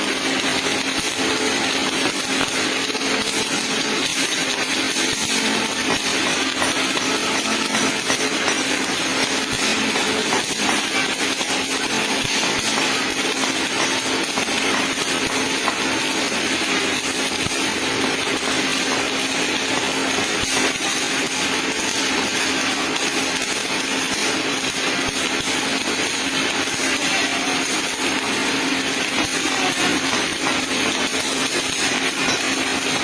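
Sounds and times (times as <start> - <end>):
welding arc crackling: 0.0 - 33.0.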